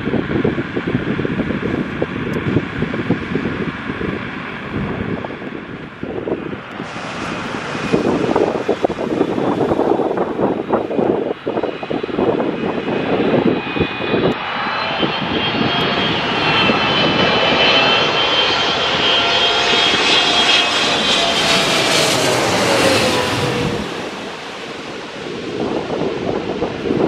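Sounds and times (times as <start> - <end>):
jet aircraft passing overhead: 0.0 - 27.0
wind buffeting microphone: 0.0 - 27.0.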